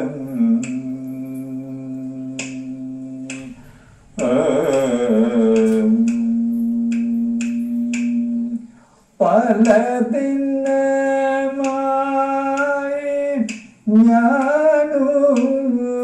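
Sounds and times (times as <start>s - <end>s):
man singing through tv speaker: 0.0s - 16.0s
sharp clicks keeping time: 0.0s - 16.0s.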